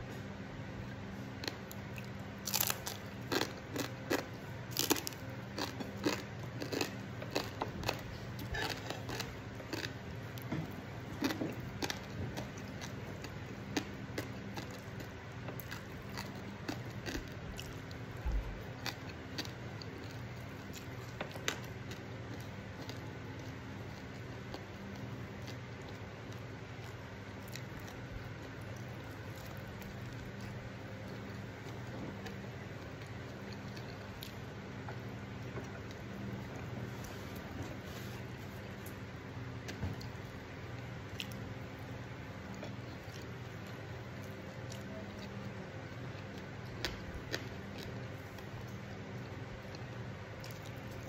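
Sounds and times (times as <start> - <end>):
person chewing crunchy food: 1.1 - 51.0.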